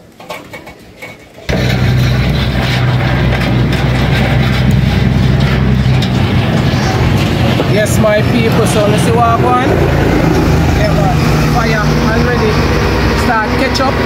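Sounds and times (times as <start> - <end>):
engine droning loudly: 1.5 - 14.0.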